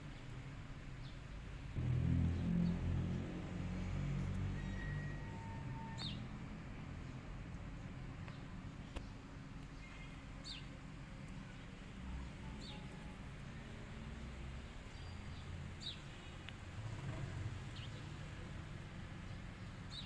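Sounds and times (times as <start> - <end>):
low background rumble: 0.0 - 19.9.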